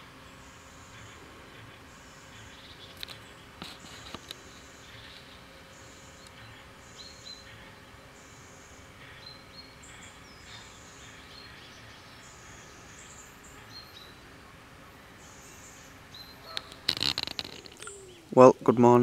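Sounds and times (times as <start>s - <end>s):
birds chirping: 0.0s - 19.0s
faint outdoor background hiss: 0.0s - 19.0s.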